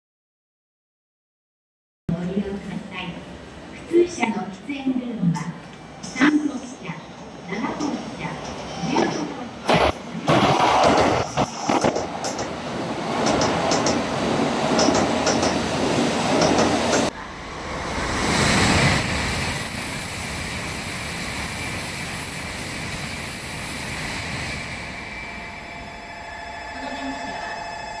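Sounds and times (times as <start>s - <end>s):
rushing train noise: 2.3s - 28.0s
train rumble: 2.3s - 28.0s.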